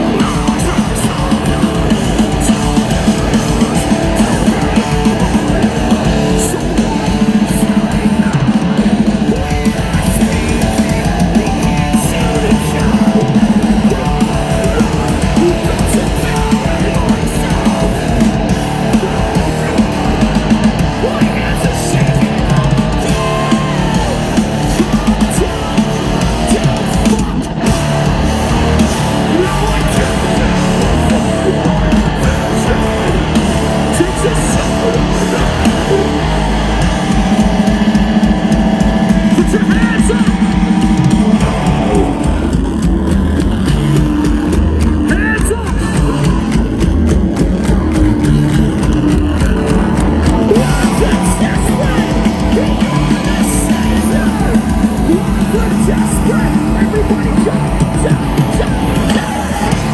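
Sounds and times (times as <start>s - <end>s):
distorted electric guitars: 0.0s - 59.9s
live heavy rock band: 0.0s - 59.9s
pounding drums: 0.0s - 59.9s.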